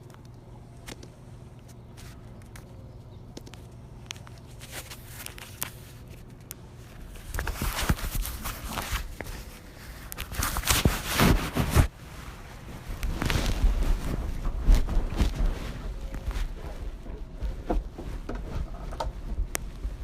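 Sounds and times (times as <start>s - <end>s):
handling rustling: 1.7s - 20.0s.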